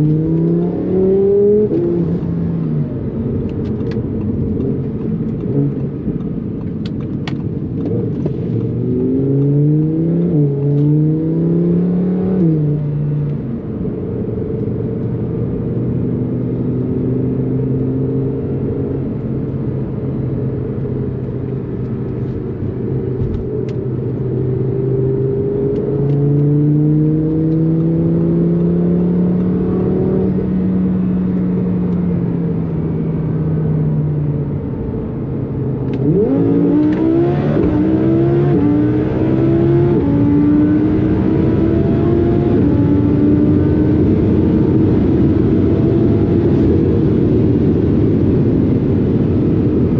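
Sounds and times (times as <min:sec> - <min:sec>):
car engine accelerating: 0:00.0 - 0:19.6, 0:20.6 - 0:49.9
road and wind noise: 0:00.0 - 0:49.9.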